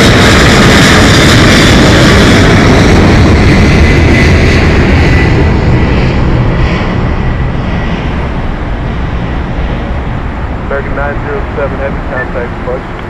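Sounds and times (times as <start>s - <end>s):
high engine whine: 0.0s - 13.0s
jet engine roar: 0.0s - 13.0s.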